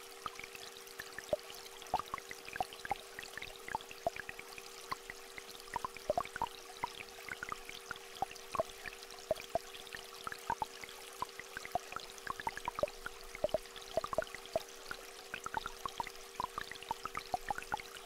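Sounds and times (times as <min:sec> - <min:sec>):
small stream trickling: 0:00.0 - 0:18.0
water dripping and plinking: 0:01.1 - 0:14.7, 0:15.3 - 0:18.0.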